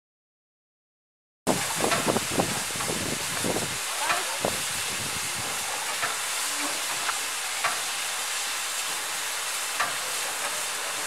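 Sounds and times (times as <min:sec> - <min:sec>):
steam hissing: 0:01.5 - 0:11.0.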